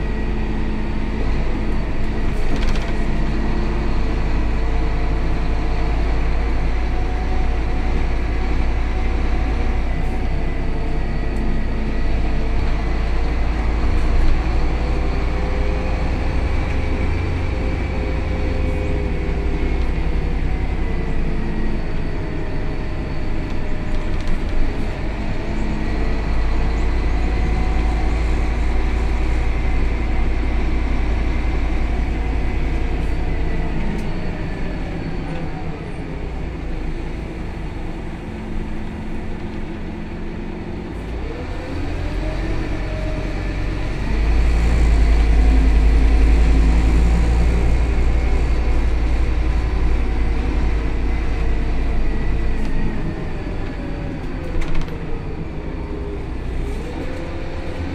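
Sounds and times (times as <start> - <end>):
bus engine rumble: 0.0 - 57.9
road noise: 0.0 - 57.9.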